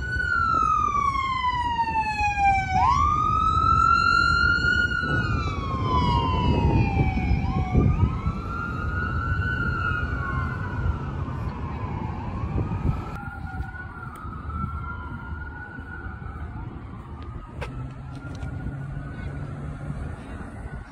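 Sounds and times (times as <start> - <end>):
ambulance siren wailing: 0.0 - 20.9
traffic noise: 0.0 - 20.9.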